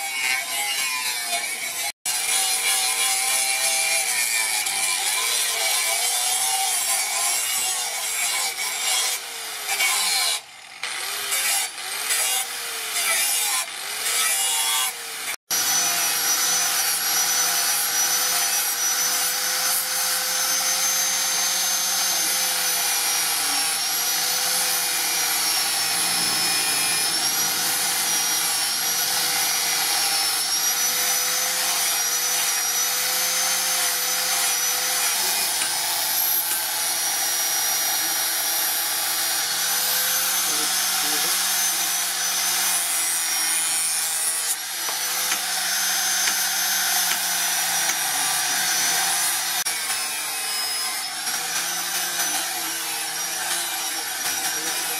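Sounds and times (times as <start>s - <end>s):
angle grinder grinding steel: 0.0s - 54.9s.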